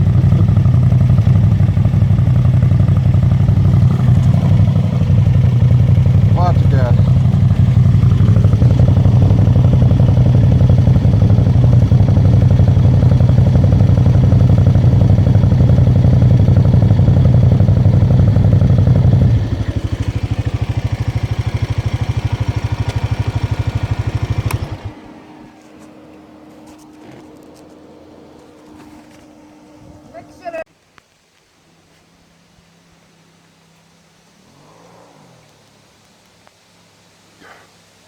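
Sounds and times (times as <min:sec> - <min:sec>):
quad engine running: 0:00.0 - 0:30.6.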